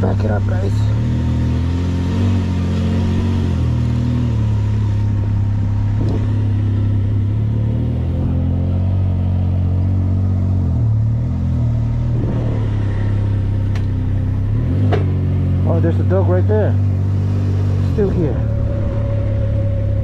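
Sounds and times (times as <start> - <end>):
engine running at low revs: 0.0 - 20.0.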